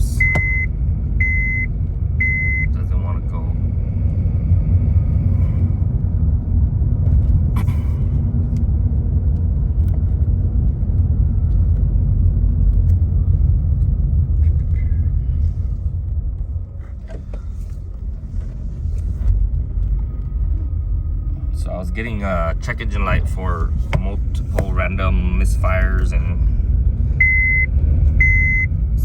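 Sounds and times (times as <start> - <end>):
car engine running rough: 0.0 - 29.0.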